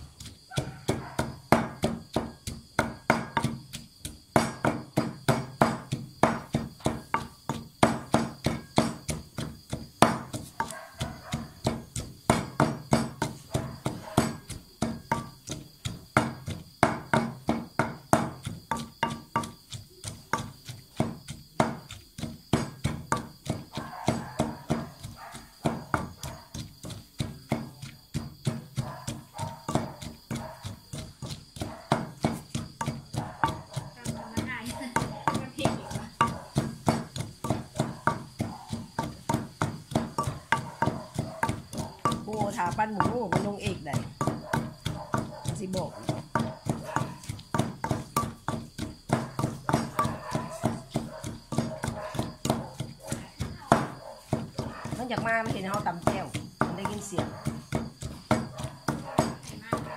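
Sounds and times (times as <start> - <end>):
pestle pounding in a mortar: 0.0 - 59.9.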